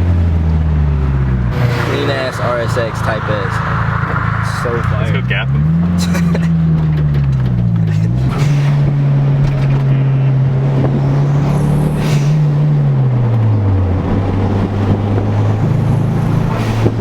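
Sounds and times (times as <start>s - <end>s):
car engine running: 0.0s - 16.2s.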